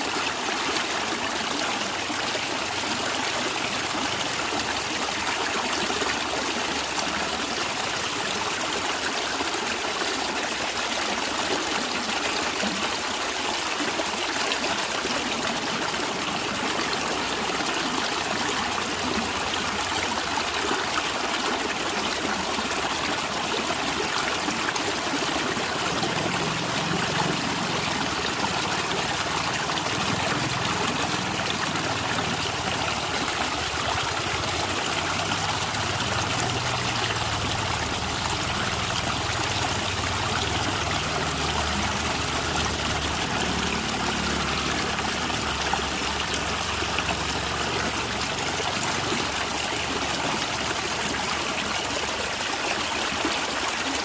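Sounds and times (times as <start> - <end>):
stream gurgling over stones: 0.0 - 54.0.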